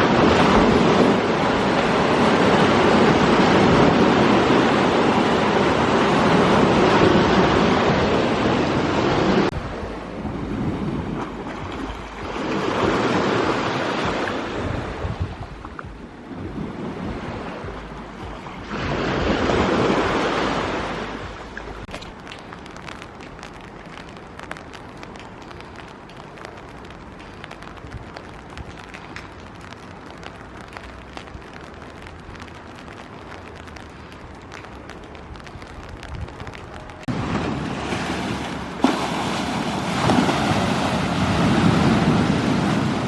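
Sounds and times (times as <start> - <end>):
sea waves washing onto shore: 0.0 - 43.0.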